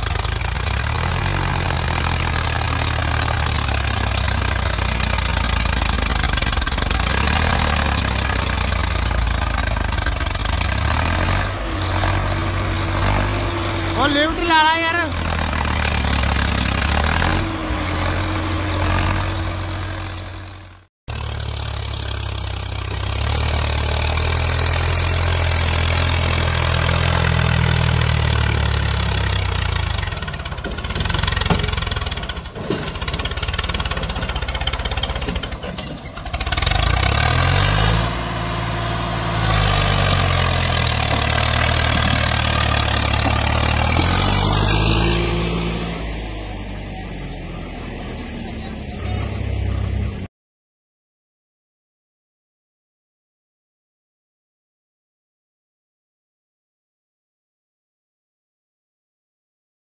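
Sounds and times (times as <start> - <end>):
tractor diesel engine under load: 0.0 - 50.3.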